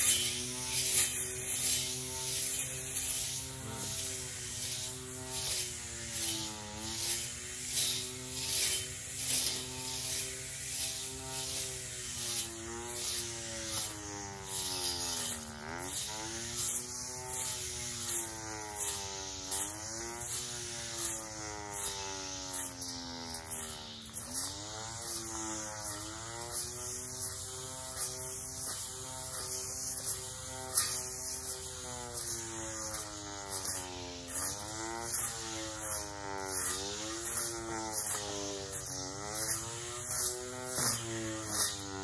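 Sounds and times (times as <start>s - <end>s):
electric weed eater whining: 0.0s - 42.0s
rhythmic swishes: 0.0s - 42.0s.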